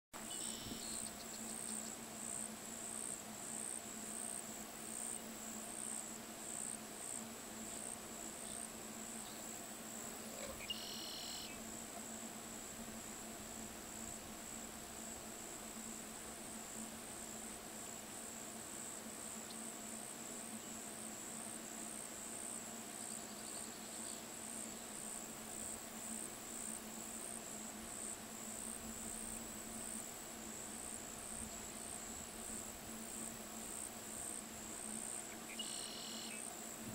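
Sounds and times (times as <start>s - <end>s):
insects trilling: 0.2s - 36.9s.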